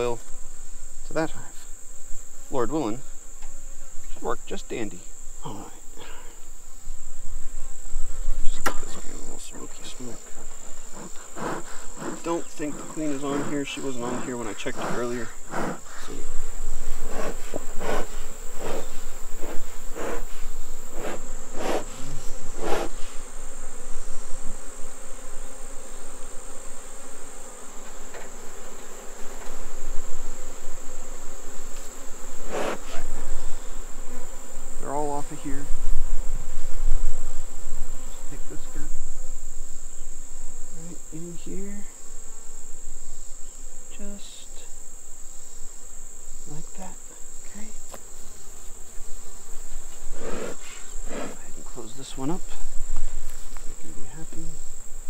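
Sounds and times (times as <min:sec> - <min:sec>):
high-pitched insect trill: 0:00.0 - 0:55.0
honeybees buzzing: 0:00.0 - 0:55.0.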